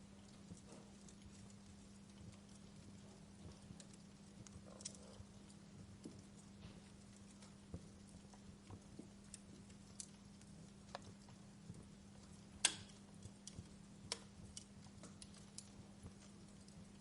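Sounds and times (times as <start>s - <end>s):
campfire crackling: 0.0s - 17.0s
faint low hum: 0.0s - 17.0s.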